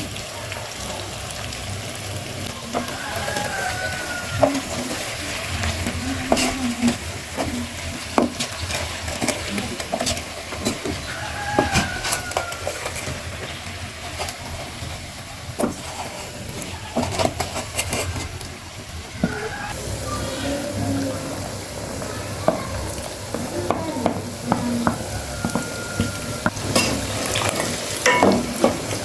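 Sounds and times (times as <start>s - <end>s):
food sizzling in a pan: 0.0s - 29.0s
utensil scraping a pot: 2.7s - 14.6s, 15.6s - 18.6s, 19.2s - 29.0s.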